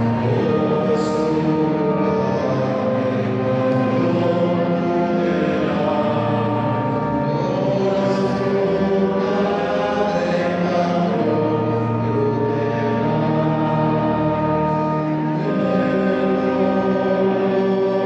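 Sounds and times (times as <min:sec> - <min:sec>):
choir singing sacred music: 0:00.0 - 0:18.0.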